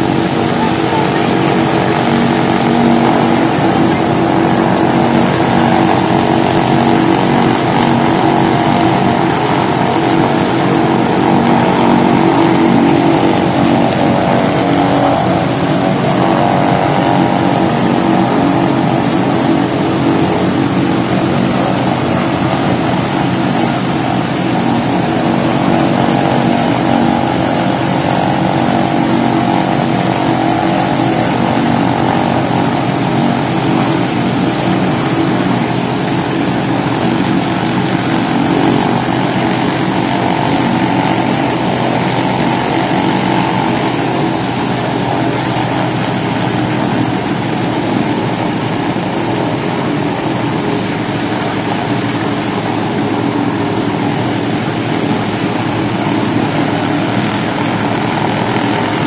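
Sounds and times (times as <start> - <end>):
radial aircraft engines running: 0.0 - 59.0.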